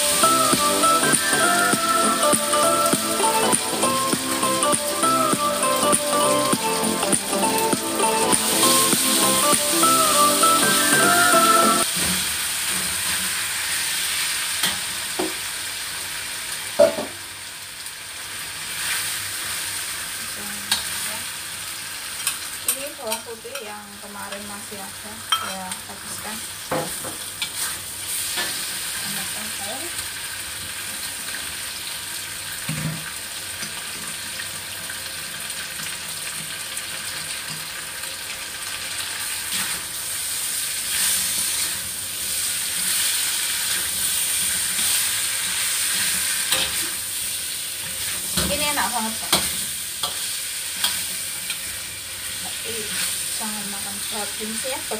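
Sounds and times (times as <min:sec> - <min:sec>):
food frying in oil: 0:00.0 - 0:54.9.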